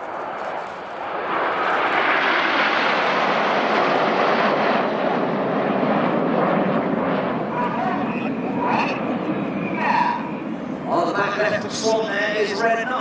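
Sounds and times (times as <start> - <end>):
jet aircraft flying past: 0.0 - 13.0.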